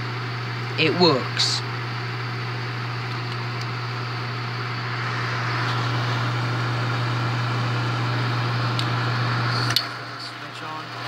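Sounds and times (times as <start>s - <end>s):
film projector running: 0.0s - 11.0s.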